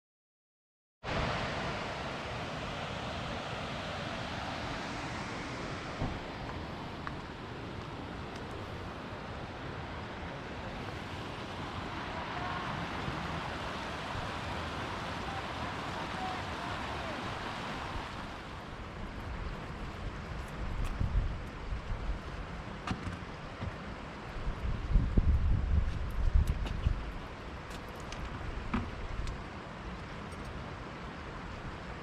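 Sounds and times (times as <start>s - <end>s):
mountain stream rushing: 1.0s - 32.0s.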